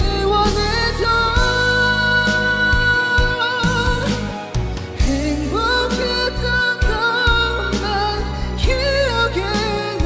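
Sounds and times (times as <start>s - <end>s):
karaoke backing track: 0.0s - 10.0s
man singing a pop ballad: 0.0s - 10.0s.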